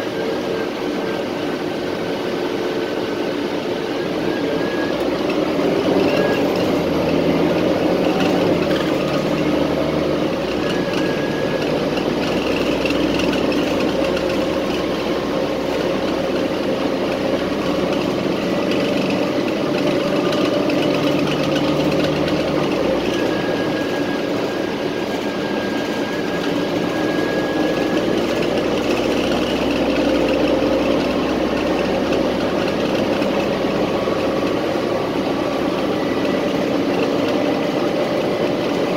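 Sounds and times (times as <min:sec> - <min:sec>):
bus engine hum: 0:00.0 - 0:38.9
road and cabin noise: 0:00.0 - 0:38.9.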